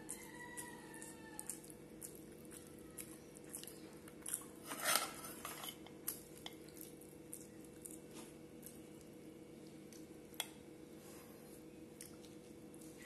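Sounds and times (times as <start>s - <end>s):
person chewing with smacks: 0.0s - 4.6s, 5.6s - 10.6s, 11.5s - 13.0s.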